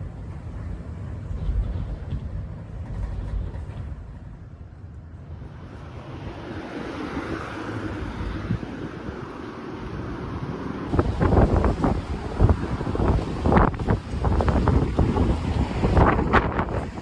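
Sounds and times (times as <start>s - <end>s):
wind gusting on microphone: 0.0s - 17.0s.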